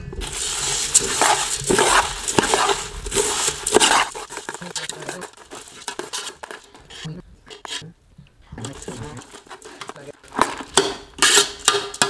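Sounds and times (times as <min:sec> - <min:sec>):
puffed rice rustling in a pot: 0:00.0 - 0:07.8, 0:08.7 - 0:12.0
spoon scraping a metal pot: 0:00.2 - 0:07.8, 0:08.7 - 0:12.0.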